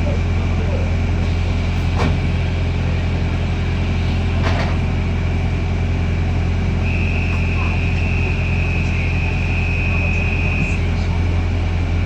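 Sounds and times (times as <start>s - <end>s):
bus diesel engine drone: 0.0s - 12.0s
bus rattles: 0.0s - 12.0s.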